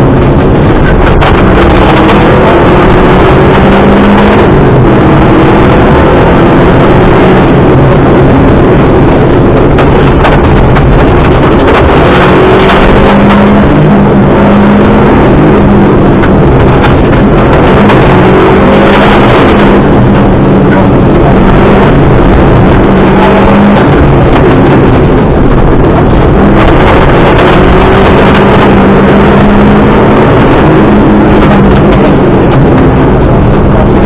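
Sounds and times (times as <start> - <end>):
rally car engine running hard: 0.0 - 34.0
road noise on gravel: 0.0 - 34.0.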